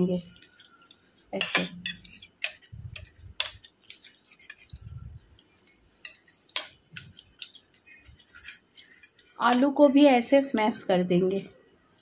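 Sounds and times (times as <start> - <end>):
metal spoon scraping steel bowl: 0.0 - 11.5.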